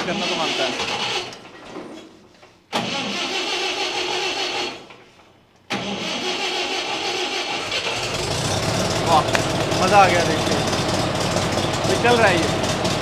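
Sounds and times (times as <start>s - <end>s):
tractor engine starting: 0.0s - 1.6s, 2.7s - 5.0s, 5.7s - 13.0s.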